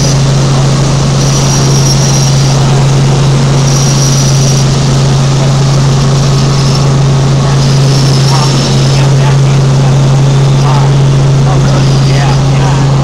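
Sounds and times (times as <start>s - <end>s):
helicopter engine and rotors: 0.0s - 13.0s
high whine: 0.0s - 13.0s.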